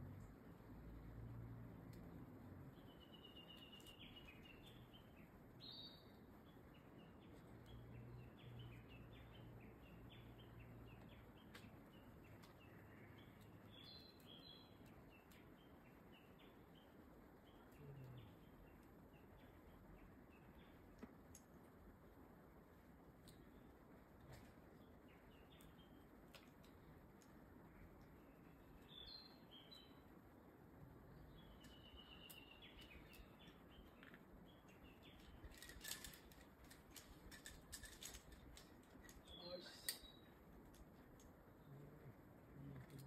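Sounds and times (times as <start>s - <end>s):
faint bird chirping: 0.0s - 43.0s.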